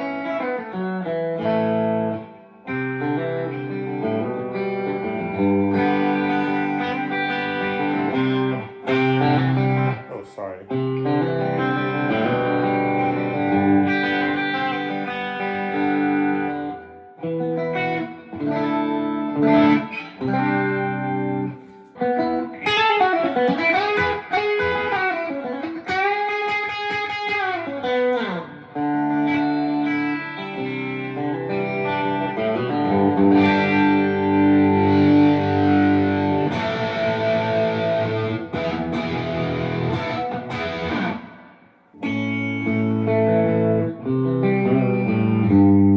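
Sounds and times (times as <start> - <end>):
electric guitar playing: 0.0 - 45.9.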